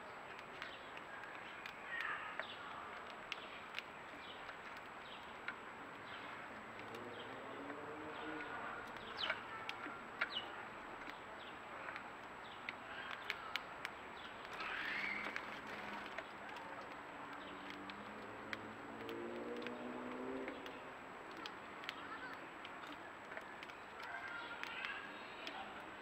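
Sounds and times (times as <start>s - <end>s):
beaks pecking seed: 0.0s - 26.0s
sparrows chirping: 0.0s - 26.0s.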